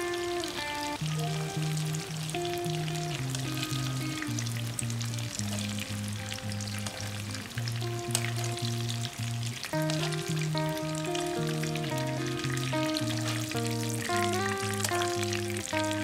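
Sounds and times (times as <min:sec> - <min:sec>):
background music with bass: 0:00.0 - 0:16.0
hot oil sizzling in a wok: 0:00.0 - 0:16.0.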